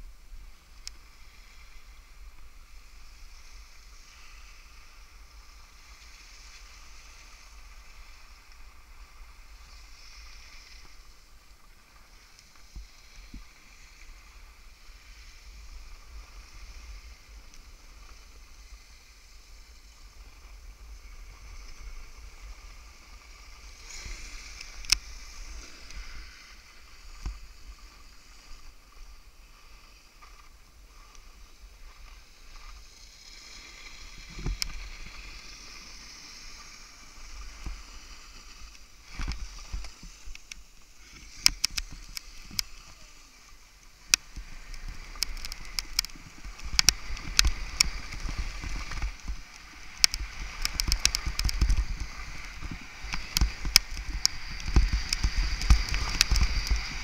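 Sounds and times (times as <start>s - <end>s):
skis gliding over snow: 0.0s - 57.0s.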